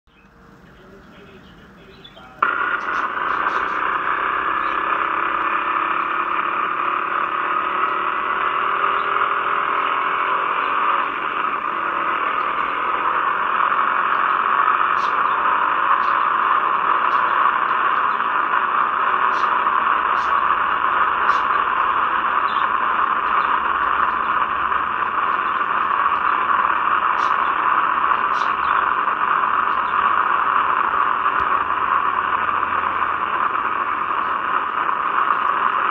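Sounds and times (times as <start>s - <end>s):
faint motorcycle engine: 0.1s - 35.9s.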